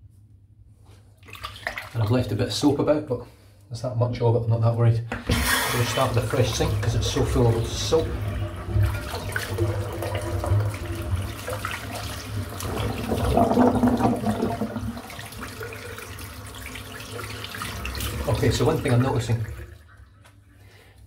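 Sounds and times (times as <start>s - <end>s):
water swirling in a sink: 1.1s - 2.7s, 5.2s - 20.8s.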